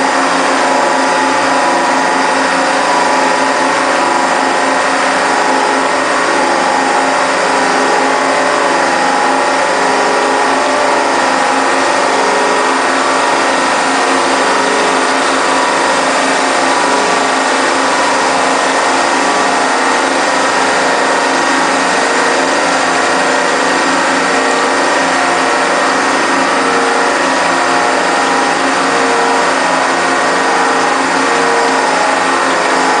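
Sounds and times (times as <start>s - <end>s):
surface grinder whirring: 0.0s - 33.0s
thin high whine: 0.0s - 33.0s.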